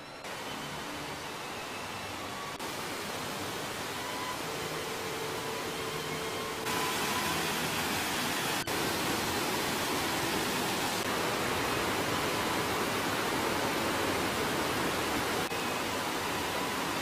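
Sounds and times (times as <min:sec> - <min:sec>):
stream rushing over rocks: 0:00.2 - 0:17.0.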